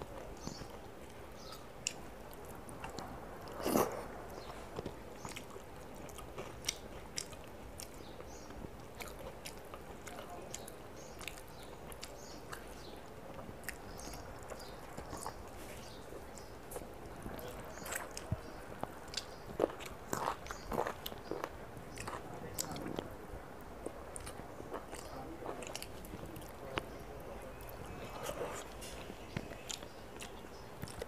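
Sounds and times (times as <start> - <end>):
chewing and wet mouth clicks: 0.4 - 15.5, 16.1 - 23.0, 23.8 - 26.9, 27.5 - 31.0.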